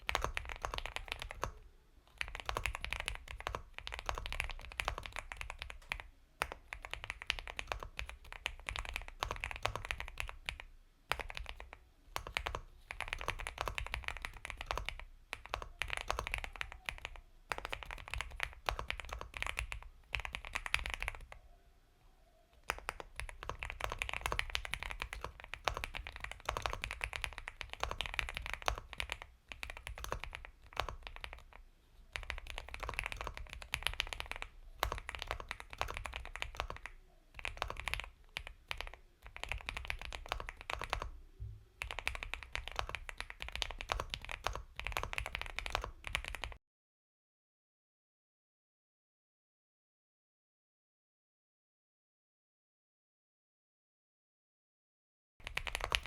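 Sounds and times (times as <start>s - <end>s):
mechanical keyboard typing: 0.0s - 21.4s, 22.6s - 41.2s, 41.8s - 46.6s, 55.4s - 56.0s.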